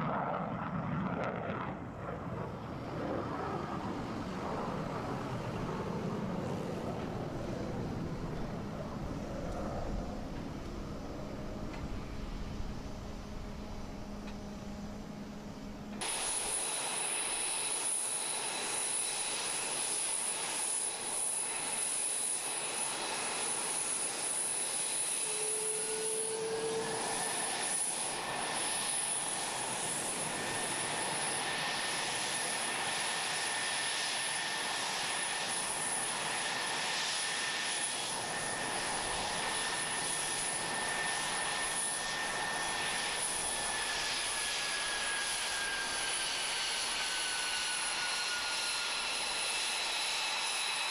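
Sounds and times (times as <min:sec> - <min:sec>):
jet engines running: 0:00.0 - 0:50.9
rising engine whine: 0:00.0 - 0:50.9.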